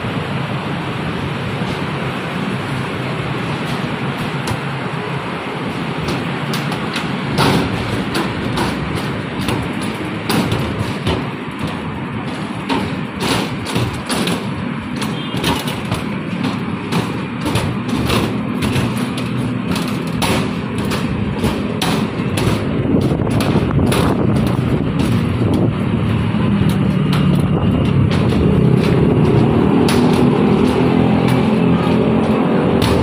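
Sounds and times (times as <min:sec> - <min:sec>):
road vehicle rumble: 0:00.0 - 0:33.0
short knocks and thumps: 0:06.0 - 0:33.0.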